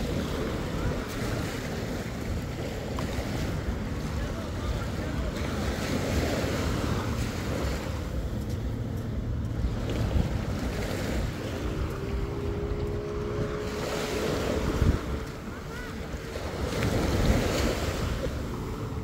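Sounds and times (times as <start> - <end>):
small waves washing on shore: 0.0 - 19.0
steady engine hum: 0.0 - 19.0
wind buffeting microphone: 0.0 - 19.0.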